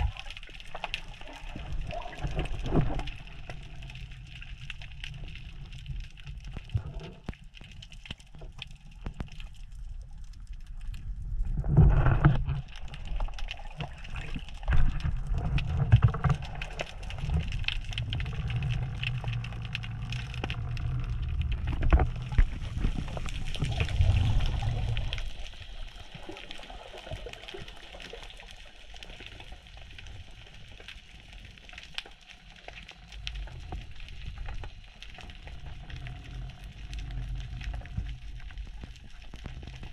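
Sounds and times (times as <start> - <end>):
clicks and crackles: 0.0 - 39.9
underwater rushing and gurgling: 0.0 - 39.9.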